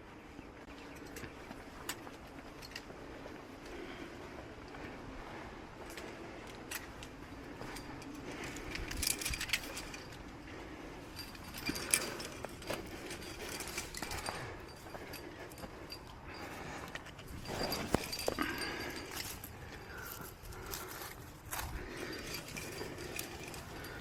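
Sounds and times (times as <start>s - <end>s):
metal carabiners clinking: 0.7s - 4.0s, 5.7s - 24.0s.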